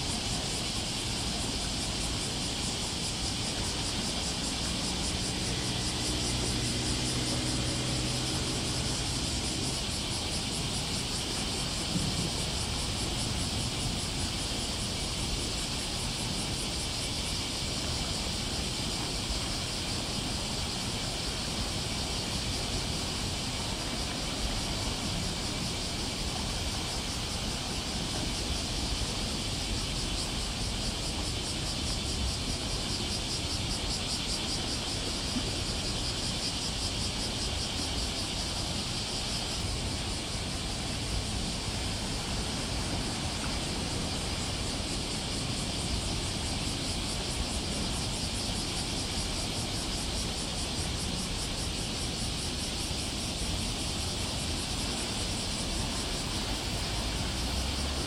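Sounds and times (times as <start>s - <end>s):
cicadas chorus: 0.0s - 58.0s.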